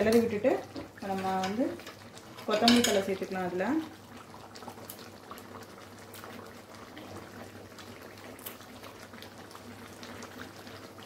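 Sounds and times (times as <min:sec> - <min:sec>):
thick gravy bubbling: 0:00.0 - 0:11.0.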